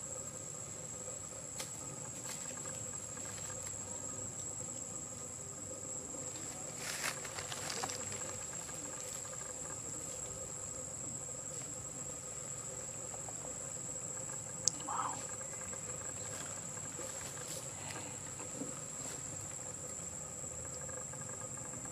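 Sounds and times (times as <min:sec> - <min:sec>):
high-pitched insect drone: 0:00.0 - 0:21.9.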